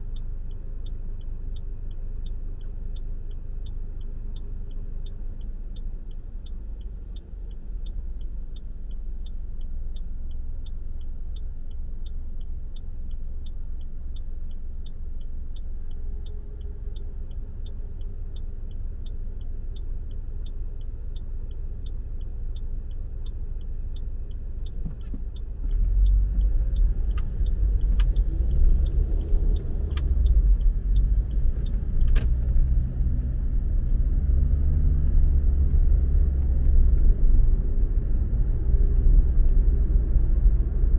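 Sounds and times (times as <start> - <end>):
car road and engine rumble: 0.0 - 40.9
light regular ticking: 0.0 - 40.9
sharp clicks: 0.5 - 34.0.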